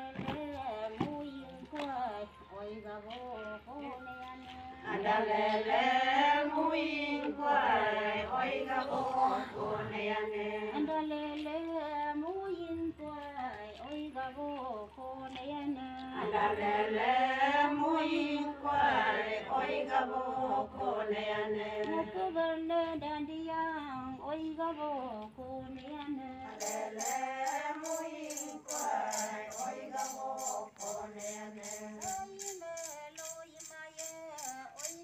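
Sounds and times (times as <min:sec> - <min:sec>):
women chanting a folk song: 0:00.0 - 0:12.8, 0:13.4 - 0:23.0, 0:24.0 - 0:35.0.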